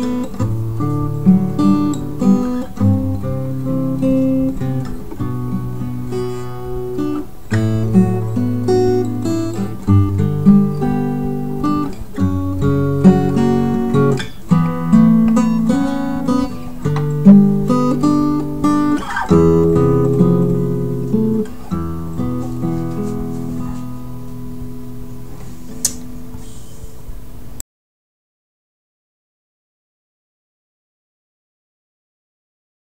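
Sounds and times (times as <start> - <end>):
acoustic guitar music: 0.0 - 27.6.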